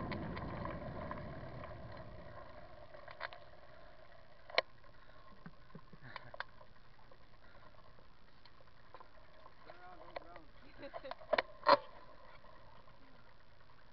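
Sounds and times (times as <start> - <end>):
bicycle clicks and ticks: 0.0 - 13.9
bicycle rolling on pavement: 0.0 - 13.9.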